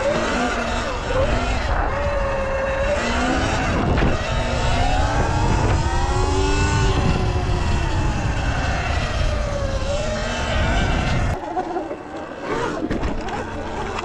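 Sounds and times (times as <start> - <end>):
electric motor whining: 0.0 - 14.0
wind rumble on microphone: 0.0 - 14.0.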